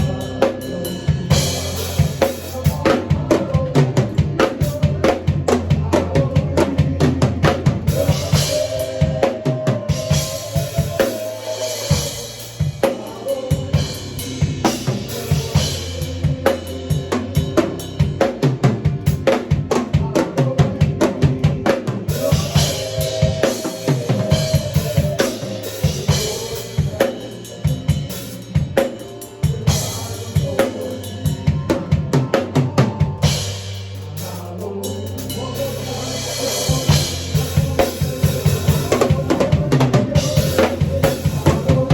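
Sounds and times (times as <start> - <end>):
drum kit groove: 0.0 - 41.9.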